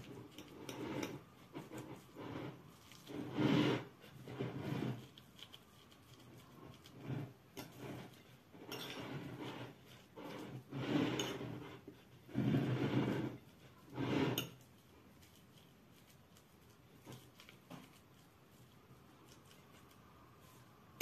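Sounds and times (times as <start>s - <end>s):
fork mashing potatoes on plate: 0.0s - 21.0s.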